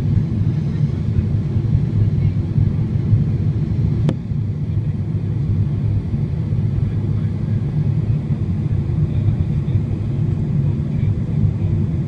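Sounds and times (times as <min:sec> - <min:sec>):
jet engine drone: 0:00.0 - 0:12.0.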